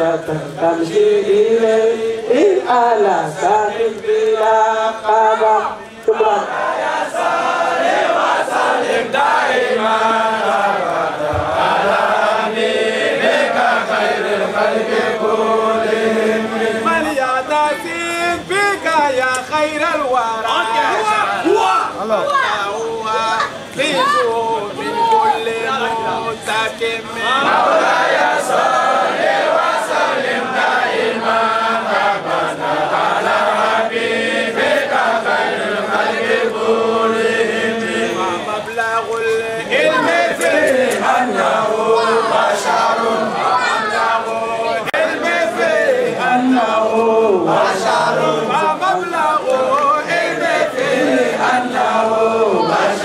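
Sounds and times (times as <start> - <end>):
voices chanting: 0.0 - 53.0.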